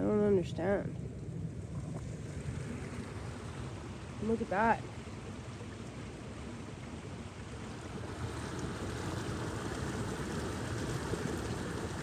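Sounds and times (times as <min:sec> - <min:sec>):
creek running under ice: 0:01.6 - 0:12.0.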